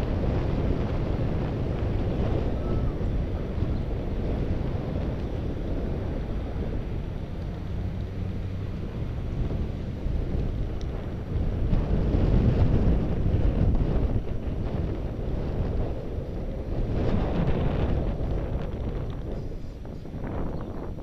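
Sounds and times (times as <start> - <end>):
street traffic: 0.0 - 21.0
wind buffeting microphone: 0.0 - 21.0.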